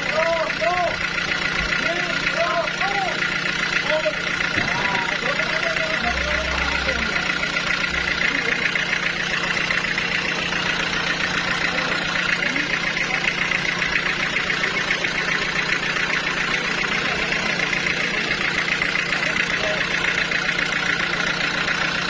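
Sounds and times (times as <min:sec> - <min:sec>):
sawmill machinery drone: 0:00.0 - 0:22.0.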